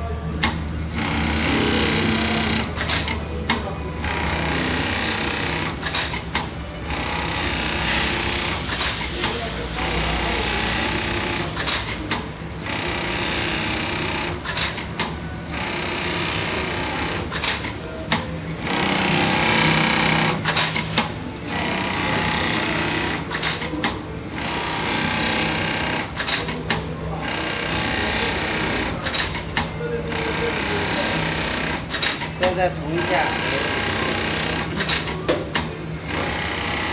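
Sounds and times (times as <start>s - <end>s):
sewing machine running: 0.4s - 9.0s, 9.7s - 17.9s, 18.6s - 29.4s, 30.0s - 35.2s, 36.0s - 36.9s.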